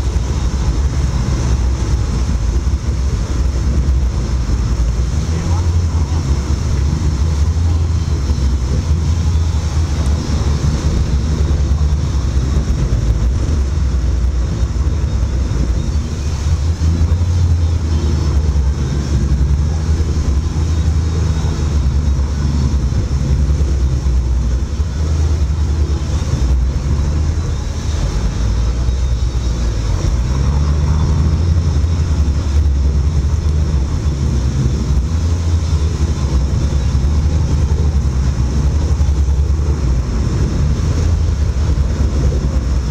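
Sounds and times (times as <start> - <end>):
boat engine drone: 0.0 - 42.9
water churning: 0.0 - 42.9.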